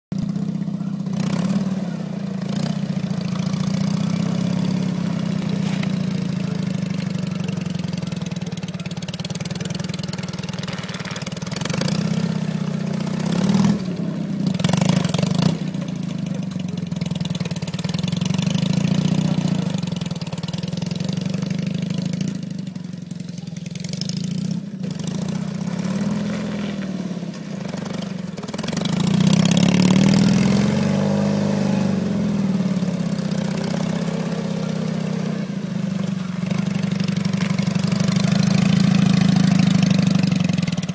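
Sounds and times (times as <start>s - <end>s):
motorcycle engine running: 0.1s - 40.9s.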